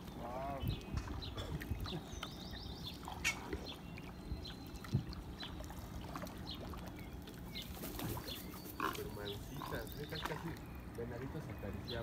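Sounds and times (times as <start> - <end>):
water trickling and lapping: 0.0 - 12.0.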